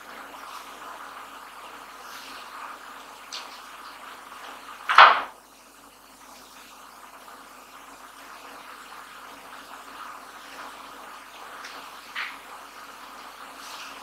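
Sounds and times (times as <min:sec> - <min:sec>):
faint room noise hiss: 0:00.0 - 0:14.0.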